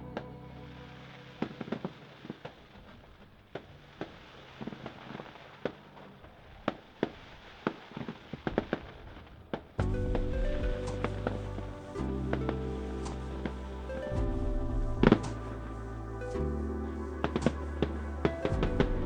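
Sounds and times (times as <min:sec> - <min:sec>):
fireworks bangs and crackles: 0:00.1 - 0:15.9, 0:16.9 - 0:19.0.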